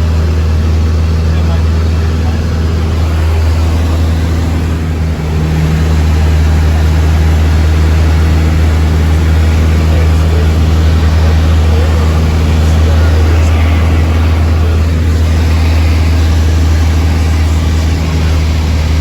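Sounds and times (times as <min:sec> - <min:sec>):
propeller plane engine running: 0:00.0 - 0:19.0.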